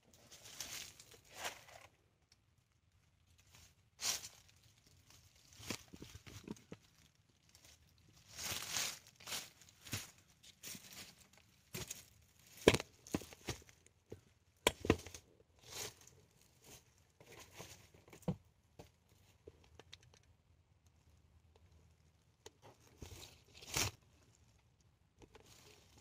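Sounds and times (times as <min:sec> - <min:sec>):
rustling and crinkling: 0:00.0 - 0:26.0.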